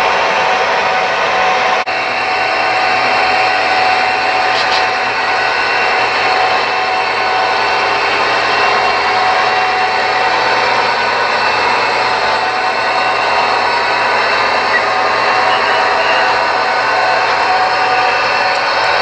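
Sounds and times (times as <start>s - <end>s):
model train motors whirring: 0.0s - 19.0s.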